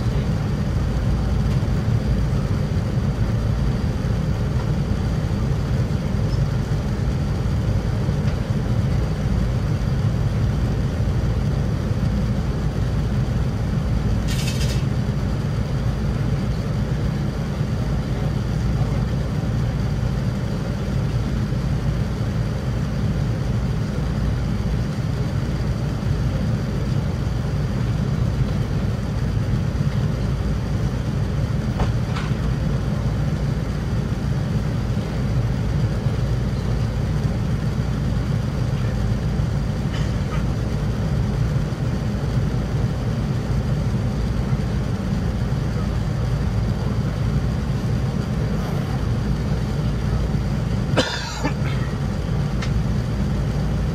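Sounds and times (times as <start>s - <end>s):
airplane cabin noise: 0.0s - 53.9s.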